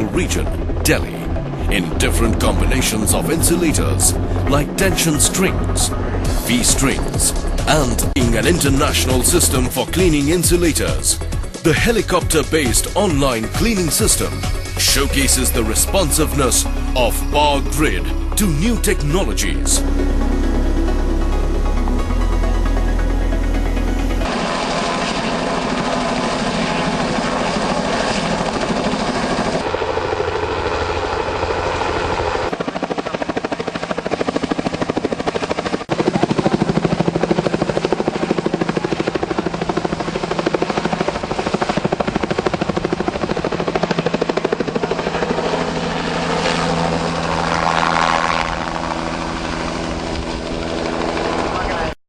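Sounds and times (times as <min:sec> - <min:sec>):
helicopter engine tone: 0:00.0 - 0:52.0
helicopter rotor chop: 0:00.0 - 0:52.0.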